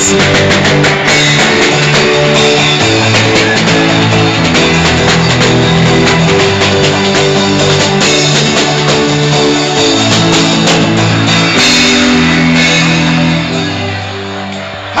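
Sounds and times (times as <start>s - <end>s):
live church band playing: 0.0s - 15.0s.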